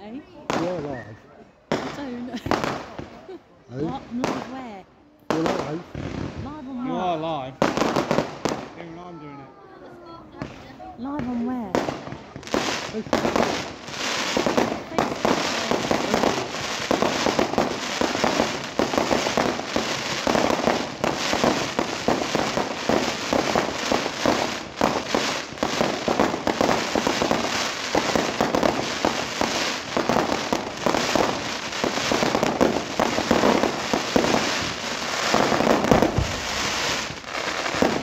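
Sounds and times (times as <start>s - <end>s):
fireworks bangs and crackles: 0.0s - 1.1s, 1.7s - 9.1s, 10.2s - 38.0s.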